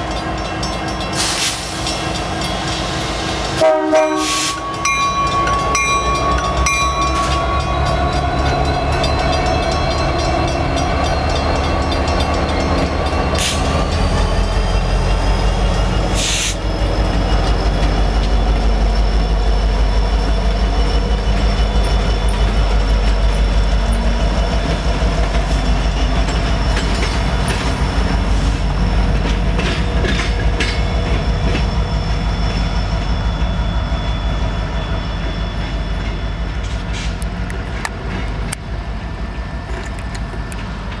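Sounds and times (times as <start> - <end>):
train engine rumble: 0.0 - 41.0.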